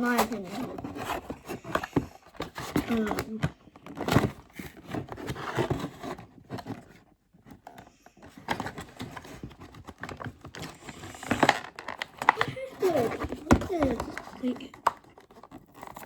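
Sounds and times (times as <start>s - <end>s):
toy packaging being pried open: 0.0s - 16.0s.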